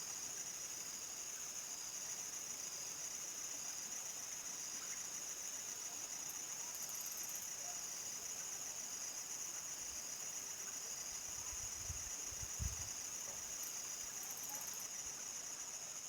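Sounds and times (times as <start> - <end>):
crickets chirring: 0.1 - 16.0.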